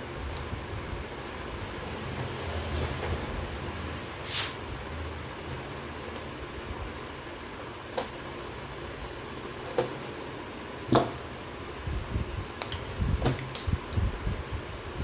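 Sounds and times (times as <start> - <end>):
steady fan hum: 0.0 - 15.0.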